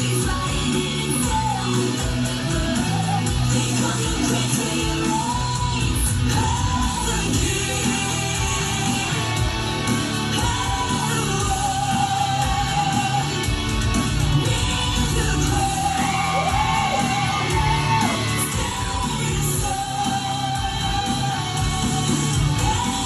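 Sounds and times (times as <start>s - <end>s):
rock song with vocals: 0.0s - 23.0s.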